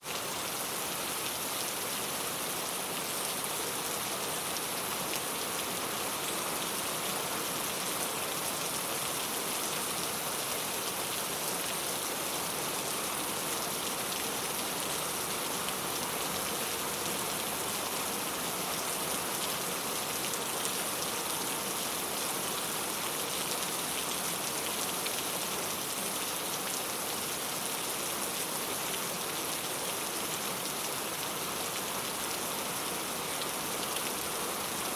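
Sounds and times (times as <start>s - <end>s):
rain on a tile roof: 0.0s - 34.9s.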